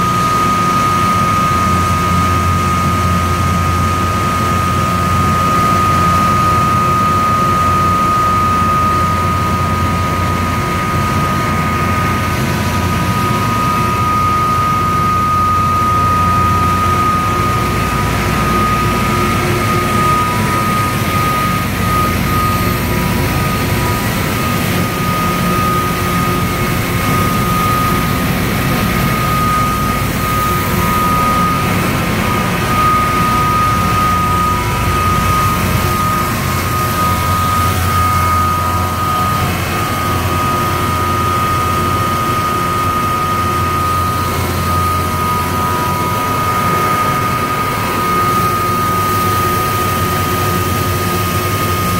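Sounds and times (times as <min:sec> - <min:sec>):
machine high whine over low hum: 0:00.0 - 0:51.9.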